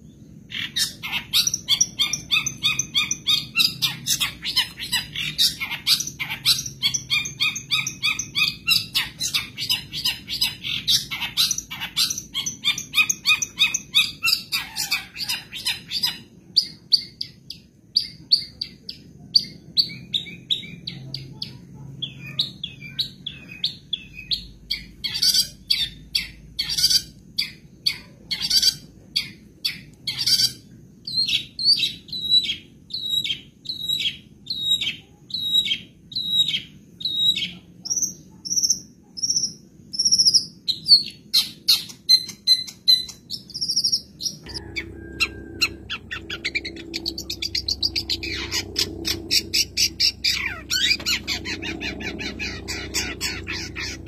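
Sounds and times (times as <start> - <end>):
bird singing chirps and trills: 0.0 - 54.0.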